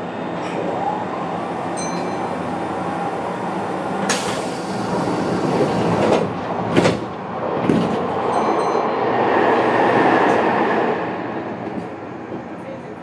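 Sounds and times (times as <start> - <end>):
train interior rumble and hiss: 0.0 - 13.0.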